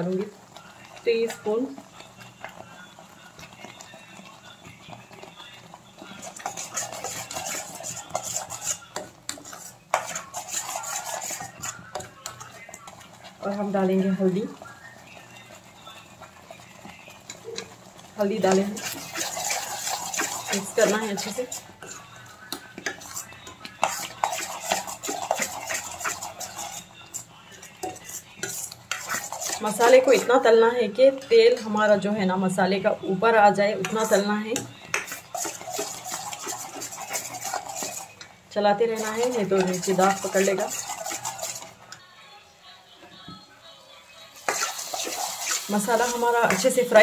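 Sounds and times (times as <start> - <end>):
paste frying in oil: 0.0 - 42.0, 44.3 - 47.0
steel spoon scraping a pan: 0.8 - 32.0, 33.7 - 42.0, 44.4 - 47.0.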